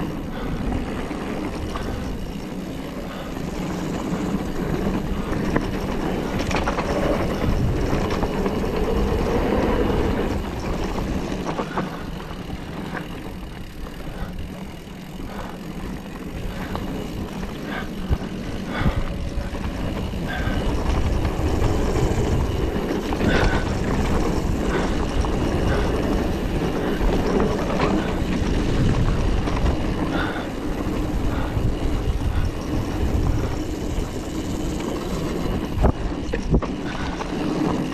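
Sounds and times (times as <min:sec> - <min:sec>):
bike rattling over bumps: 0:00.0 - 0:37.9
tyres rolling on gravel: 0:00.0 - 0:37.9
wind rush on microphone: 0:00.0 - 0:37.9.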